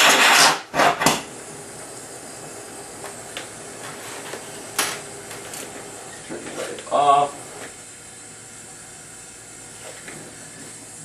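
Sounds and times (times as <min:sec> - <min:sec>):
torch flames hissing: 0:01.3 - 0:11.0.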